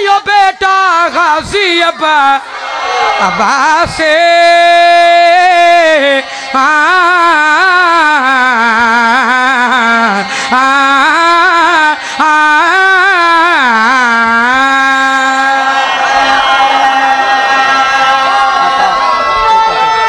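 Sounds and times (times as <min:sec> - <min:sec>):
man singing into microphone: 0:00.0 - 0:02.5, 0:03.2 - 0:18.0.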